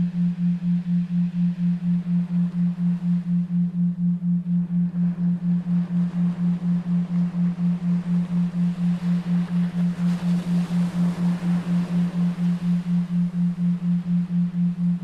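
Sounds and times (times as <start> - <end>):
pulsing low tone: 0.0 - 15.0.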